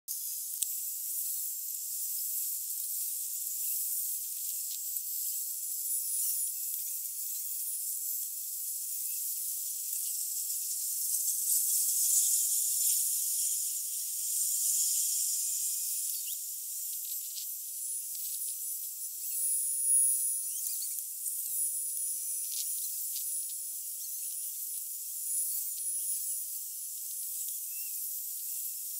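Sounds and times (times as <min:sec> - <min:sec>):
high-pitched hiss: 0:00.1 - 0:28.9.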